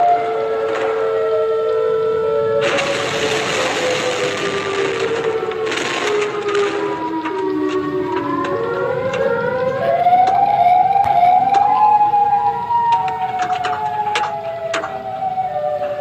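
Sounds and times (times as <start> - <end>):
civil defense siren: 0.0 - 16.0.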